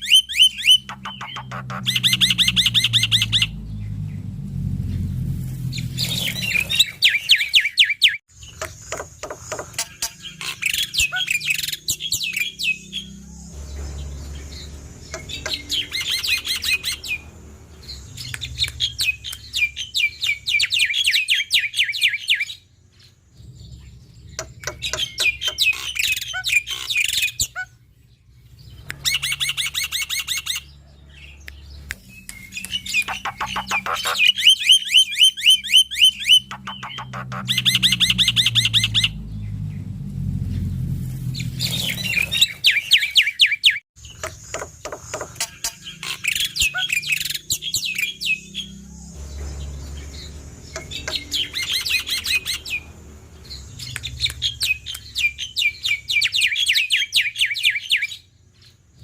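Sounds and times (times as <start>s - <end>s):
starling singing: 0.0s - 4.0s, 9.5s - 22.6s, 23.5s - 27.8s, 28.5s - 39.6s, 41.4s - 58.3s.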